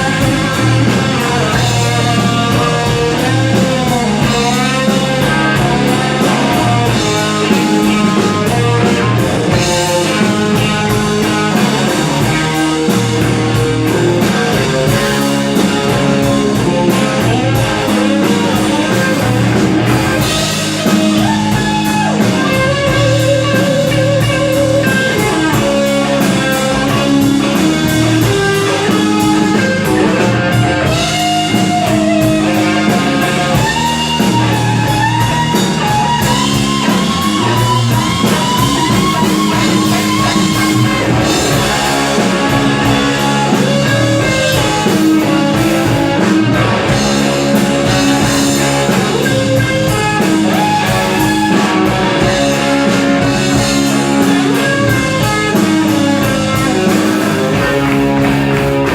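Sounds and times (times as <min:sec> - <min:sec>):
chordal guitar: 0:00.0 - 0:58.9
drum kit: 0:00.0 - 0:58.9
lead guitar bending notes: 0:00.0 - 0:58.9.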